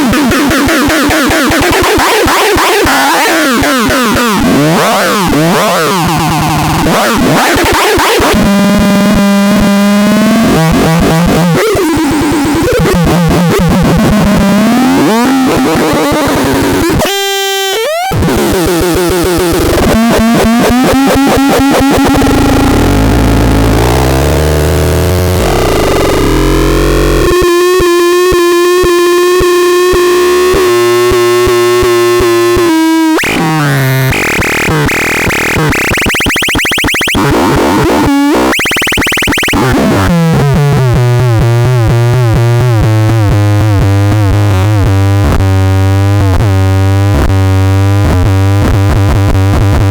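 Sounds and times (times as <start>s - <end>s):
harsh buzzy synthesizer tones: 0.0s - 49.9s.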